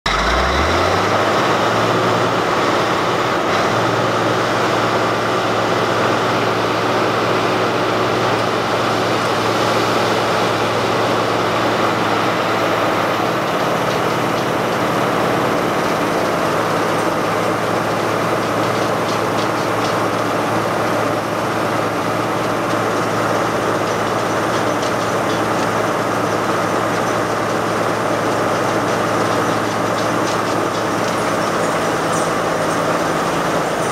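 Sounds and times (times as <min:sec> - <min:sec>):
tree grinder engine running: 0:00.0 - 0:33.9.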